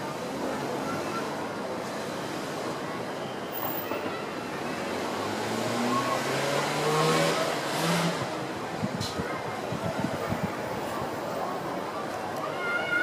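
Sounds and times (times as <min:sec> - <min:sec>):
crowd murmur: 0:00.0 - 0:13.0.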